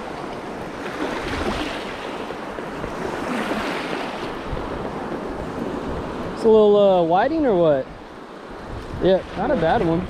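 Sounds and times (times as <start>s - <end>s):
surf washing over shallows: 0.0s - 10.0s.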